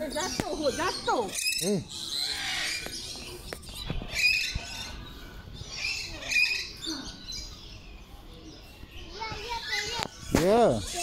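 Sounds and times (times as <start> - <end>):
birds squawking: 0.0 - 11.0.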